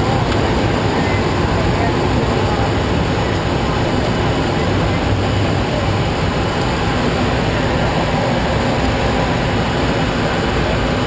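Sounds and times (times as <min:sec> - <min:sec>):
jet cockpit airflow and engine: 0:00.0 - 0:11.0.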